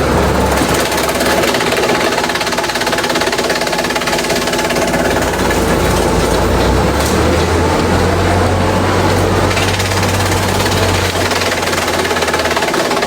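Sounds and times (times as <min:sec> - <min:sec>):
industrial shredder running: 0:00.0 - 0:13.0.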